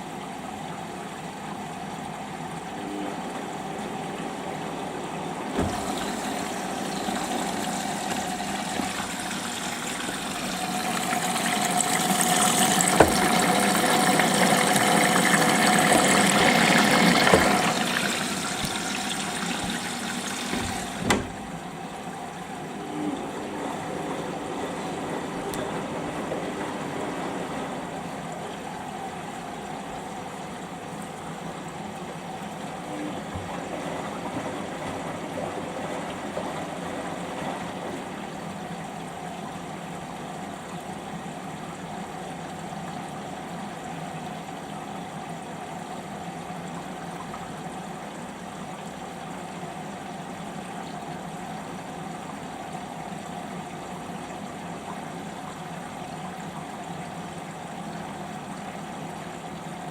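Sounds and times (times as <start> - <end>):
water rushing into washing machine: 0.0 - 59.9.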